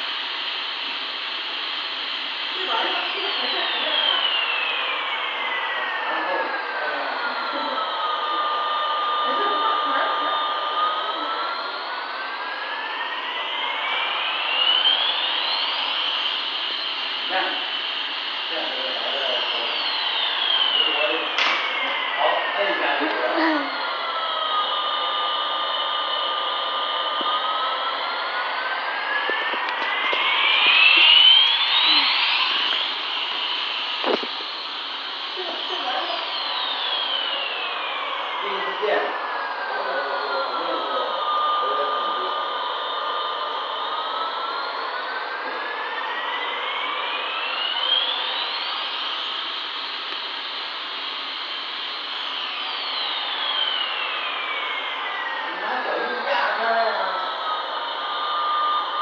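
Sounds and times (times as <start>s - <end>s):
toy airplane jet engine sound effect: 2.5s - 16.6s, 17.3s - 51.0s, 51.7s - 59.0s.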